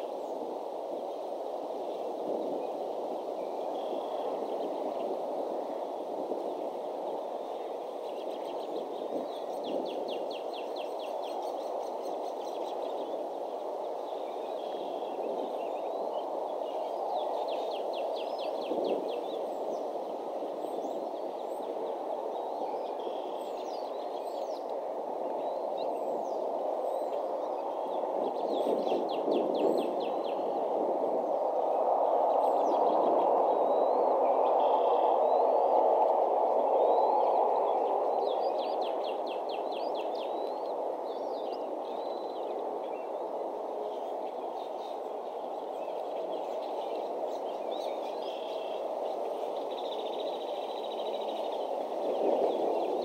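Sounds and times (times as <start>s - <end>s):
songbirds singing rapid trills: 1.9s - 53.0s.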